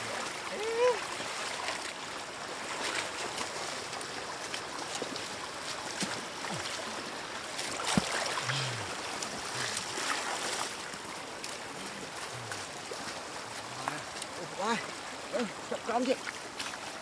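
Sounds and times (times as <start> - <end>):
water splashing and sloshing: 0.0 - 17.0
water trickling: 0.0 - 17.0.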